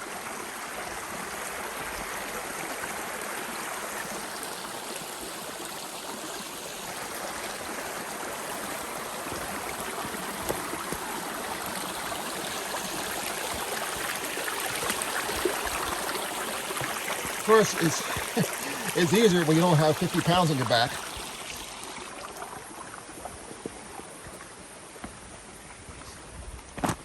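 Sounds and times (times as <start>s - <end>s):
creek water flowing over rocks: 0.0s - 26.1s.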